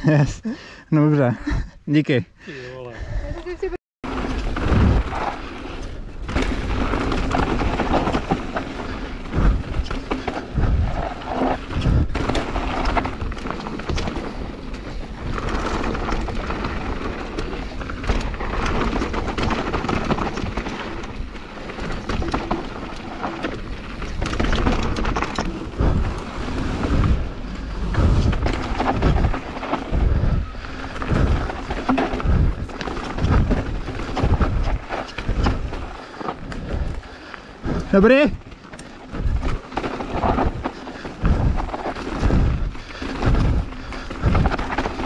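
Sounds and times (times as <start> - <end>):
bike tyre noise: 4.0 - 45.0
wind buffeting microphone: 6.0 - 45.0
low thumps over bumps: 6.3 - 45.0.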